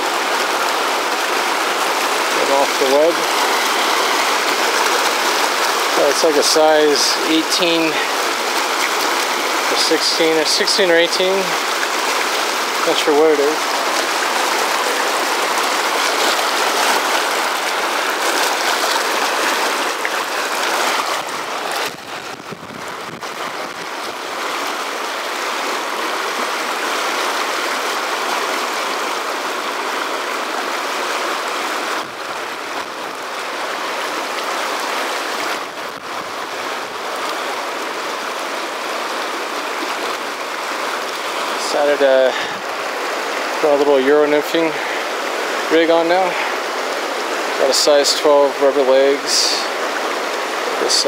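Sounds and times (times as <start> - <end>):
river rushing over boulders: 0.0 - 51.0.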